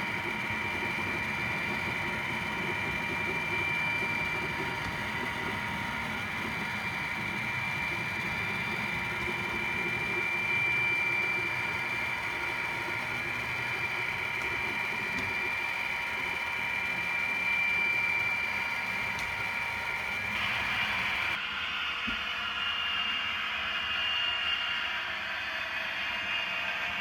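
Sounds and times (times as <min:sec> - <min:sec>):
model locomotive whine: 0:00.0 - 0:27.0.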